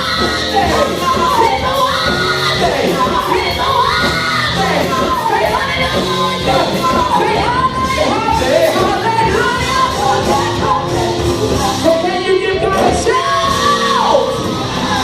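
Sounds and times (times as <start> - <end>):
full band playing: 0.0 - 15.0
worship singing: 0.0 - 15.0.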